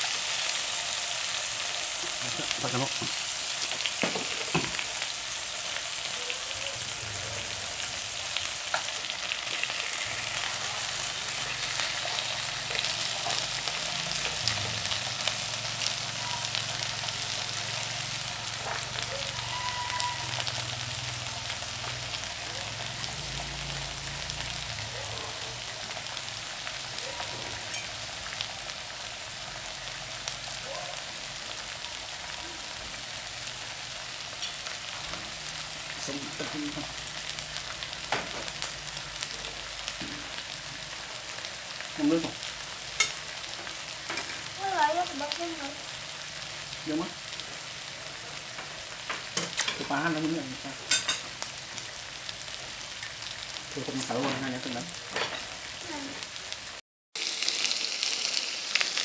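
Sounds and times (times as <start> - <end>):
meat sizzling on grill pan: 0.0 - 59.0.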